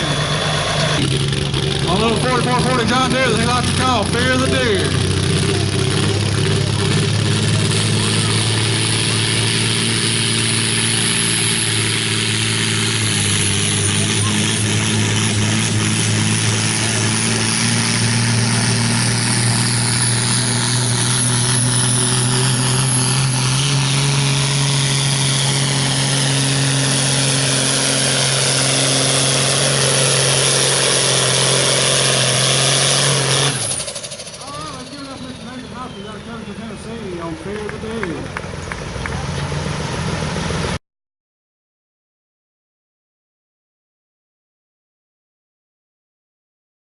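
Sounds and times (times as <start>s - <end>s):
diesel tractor engine under load: 0.0s - 40.8s
high whine gliding downward: 0.0s - 40.8s.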